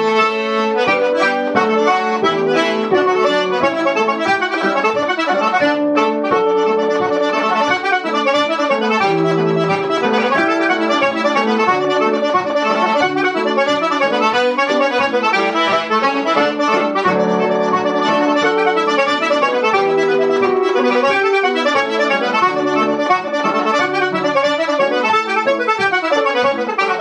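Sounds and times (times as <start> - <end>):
button accordion playing: 0.0 - 27.0
piano accompaniment: 0.0 - 27.0.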